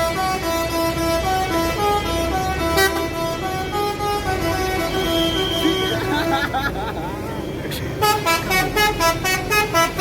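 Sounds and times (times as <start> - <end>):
bus air horn melody: 0.0 - 6.3, 7.4 - 10.0.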